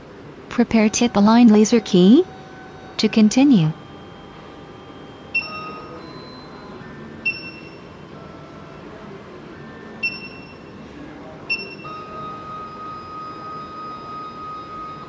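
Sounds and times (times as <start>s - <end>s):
machine motors whining: 0.5s - 10.0s, 11.4s - 15.0s.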